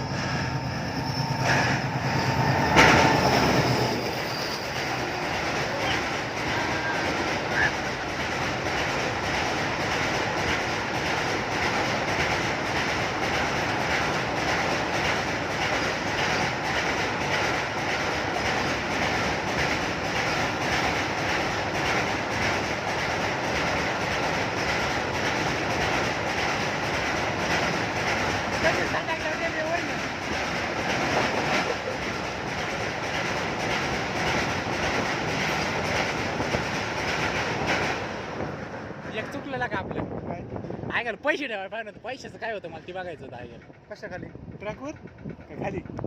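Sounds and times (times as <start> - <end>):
train wheels clattering on bridge: 1.3 - 39.4, 42.4 - 46.0.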